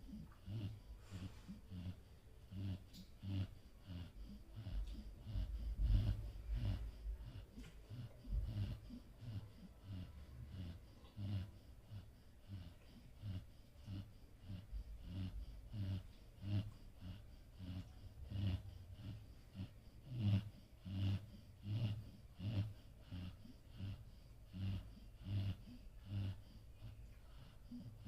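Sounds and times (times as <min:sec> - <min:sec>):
dog snoring: 0:00.0 - 0:28.0.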